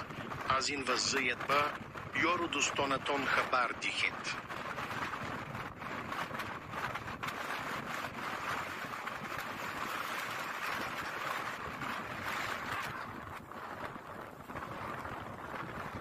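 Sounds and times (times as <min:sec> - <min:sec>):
strong blizzard wind: 0:00.0 - 0:16.0.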